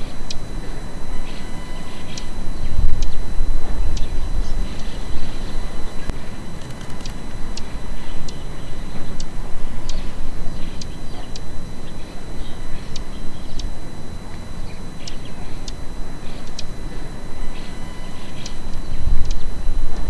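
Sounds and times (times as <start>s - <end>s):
bird ticking calls: 0.0s - 19.6s
steady low rumble: 0.0s - 20.0s.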